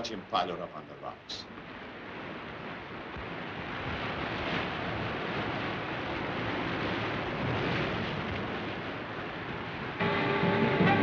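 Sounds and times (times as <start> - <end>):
rough sea surf: 0.0 - 11.0
wind: 0.0 - 11.0.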